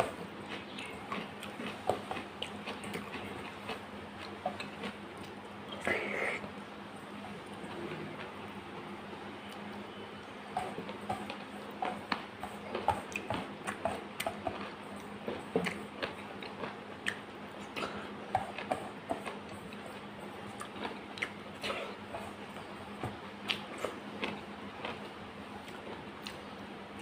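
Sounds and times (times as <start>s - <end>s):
person chewing food: 0.0s - 6.5s, 10.6s - 27.0s.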